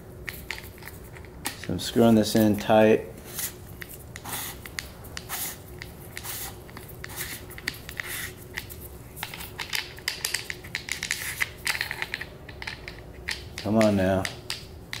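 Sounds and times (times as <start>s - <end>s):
gloved hands rubbing and rustling: 0.2s - 13.5s.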